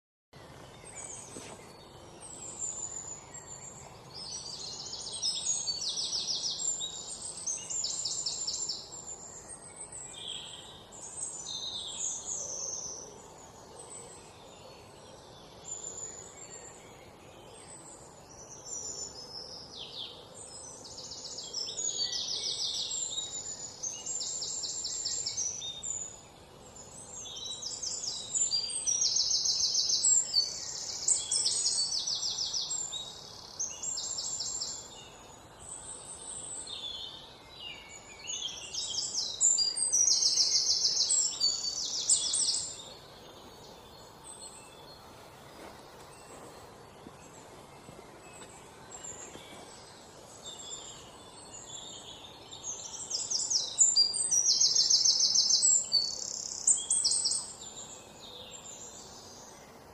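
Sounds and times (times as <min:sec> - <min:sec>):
songbirds buzzy trills and chirps: 0:00.4 - 0:59.9
steady background hiss: 0:00.4 - 0:59.9.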